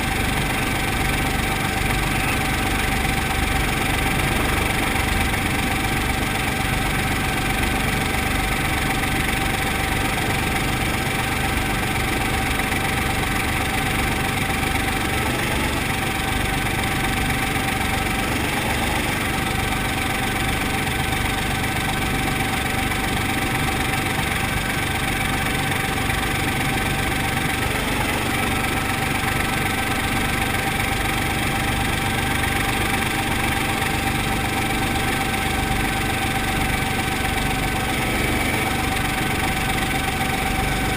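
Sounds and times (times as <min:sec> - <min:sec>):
constant high whine: 0:00.0 - 0:40.9
helicopter engine and rotor running: 0:00.0 - 0:40.9.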